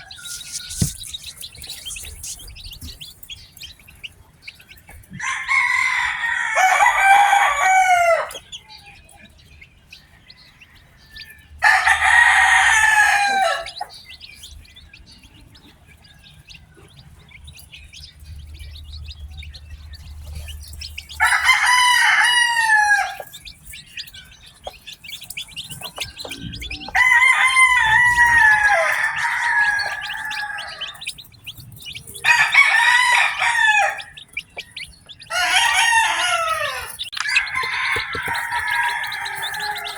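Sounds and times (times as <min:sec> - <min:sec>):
roosters crowing: 0:00.0 - 0:03.7, 0:04.5 - 0:39.9
chicks peeping: 0:00.0 - 0:39.9.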